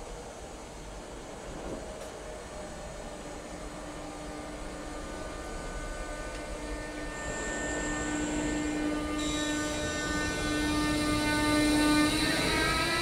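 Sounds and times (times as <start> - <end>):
electric train whine: 0.0 - 13.0
train rolling noise: 0.0 - 13.0.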